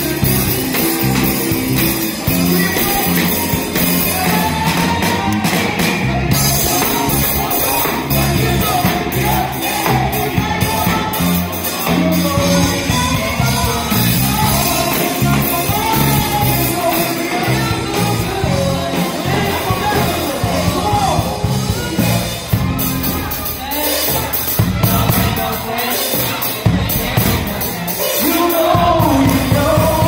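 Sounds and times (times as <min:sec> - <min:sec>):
person singing: 0:00.0 - 0:22.6, 0:23.3 - 0:30.0
crowd shouting and whooping: 0:00.0 - 0:30.0
live band playing rnb: 0:00.0 - 0:30.0.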